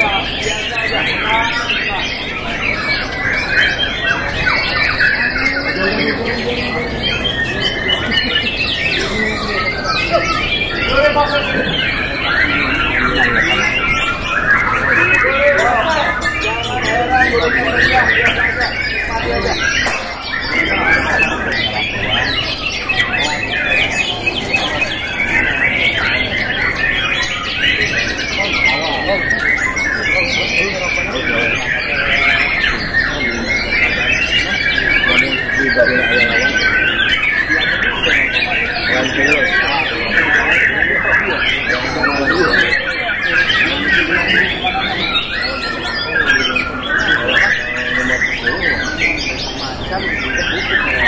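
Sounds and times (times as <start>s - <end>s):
faint voices: 0.0s - 51.0s
songbirds whistling and trilling: 0.0s - 51.0s.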